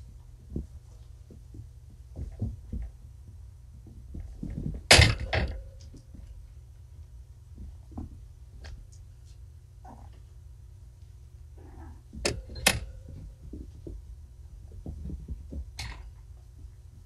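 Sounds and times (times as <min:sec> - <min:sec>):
kittens thumping on rug: 0:00.0 - 0:06.6, 0:07.5 - 0:10.3, 0:11.6 - 0:17.0
low steady hum: 0:00.0 - 0:17.0.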